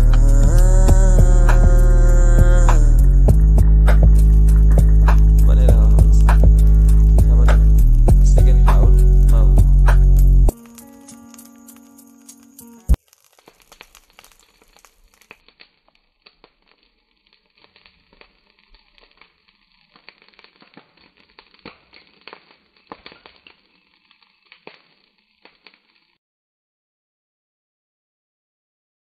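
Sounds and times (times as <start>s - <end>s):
dry grass fire crackling: 0.0s - 26.2s.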